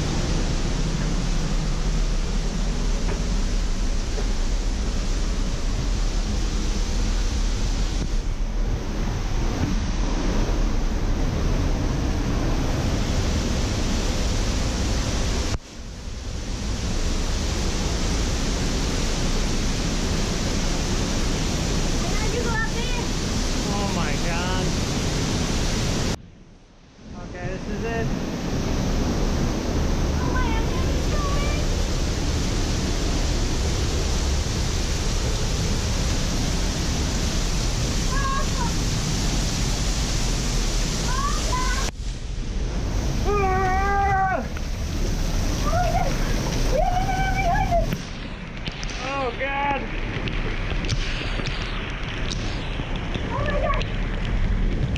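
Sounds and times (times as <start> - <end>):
waterfall rushing: 0.0 - 26.2, 27.0 - 54.8.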